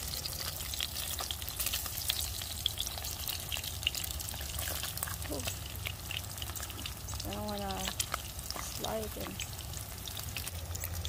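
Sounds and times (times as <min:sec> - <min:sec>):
meat sizzling with crackling pops: 0:00.0 - 0:11.0.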